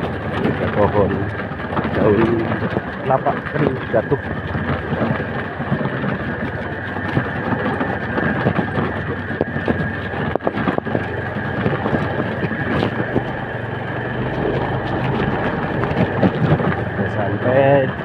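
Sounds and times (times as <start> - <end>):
knocks and rattles from bumps: 0.0 - 18.0
motorcycle engine running: 0.0 - 18.0.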